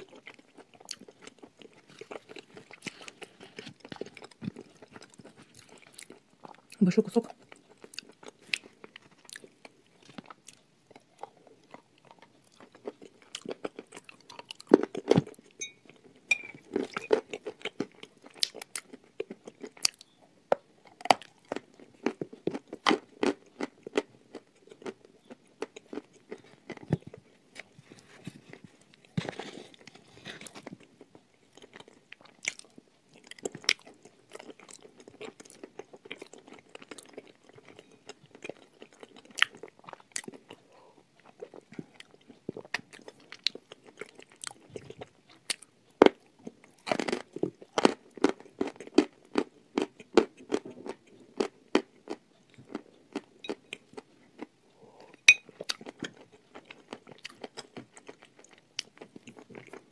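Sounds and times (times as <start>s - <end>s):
wet chewing: 0.0s - 16.0s, 20.9s - 59.9s.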